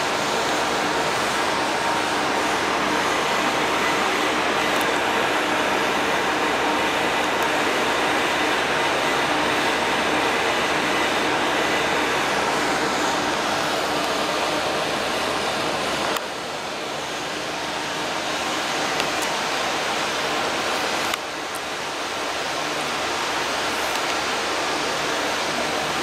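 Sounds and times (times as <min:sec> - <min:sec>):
ventilation rushing noise: 0:00.0 - 0:26.0.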